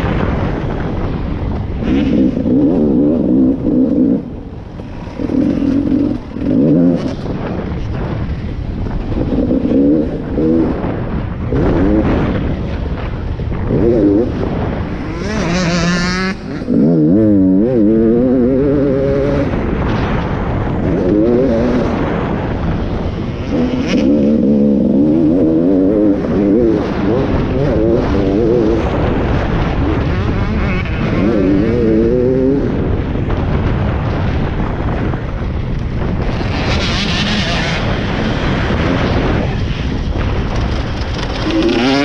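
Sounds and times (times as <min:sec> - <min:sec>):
motocross bike engine revving: 0:01.8 - 0:08.4, 0:09.0 - 0:13.0, 0:13.6 - 0:20.0, 0:20.7 - 0:33.0, 0:36.1 - 0:42.0.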